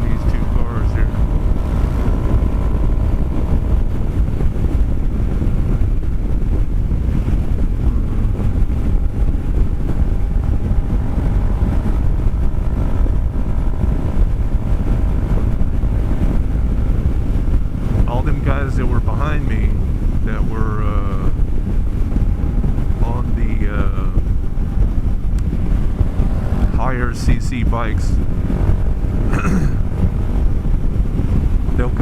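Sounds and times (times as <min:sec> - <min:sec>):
scooter engine droning: 0:00.0 - 0:32.0
wind buffeting microphone: 0:00.0 - 0:32.0.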